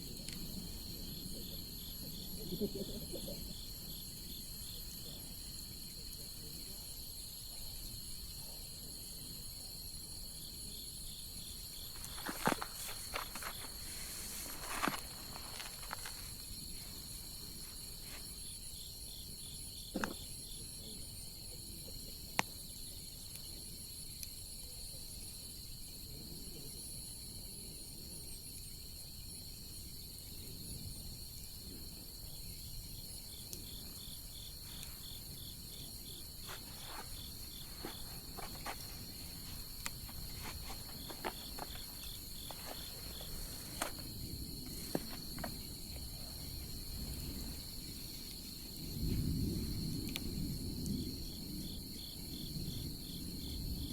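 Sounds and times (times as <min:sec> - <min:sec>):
crickets trilling: 0:00.0 - 0:53.9.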